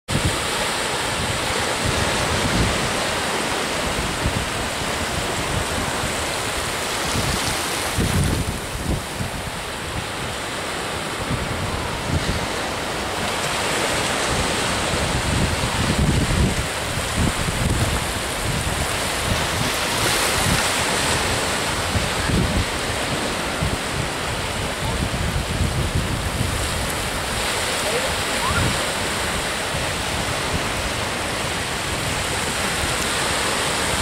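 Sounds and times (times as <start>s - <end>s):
small waves breaking in surf: 0.1s - 34.0s
wind buffeting microphone: 0.1s - 34.0s.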